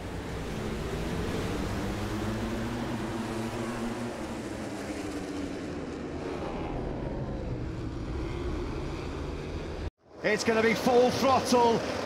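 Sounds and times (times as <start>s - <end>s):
racing motorcycles accelerating: 0.0s - 9.9s.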